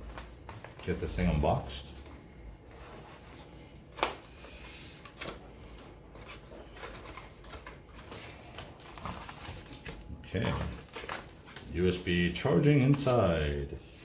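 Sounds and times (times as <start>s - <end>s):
cardboard packaging rustling: 0.0s - 14.0s.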